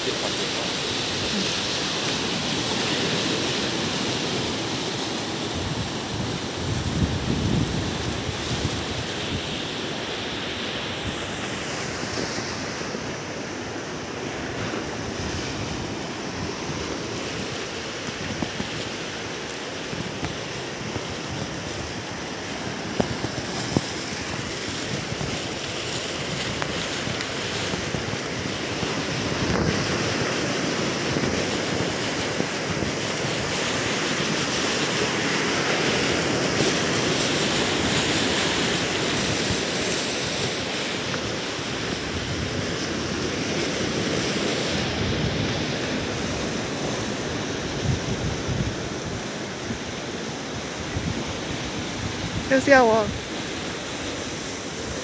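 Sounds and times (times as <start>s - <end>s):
wind buffeting microphone: 0.0s - 12.2s, 14.5s - 55.0s
surf washing onto shore: 0.0s - 55.0s.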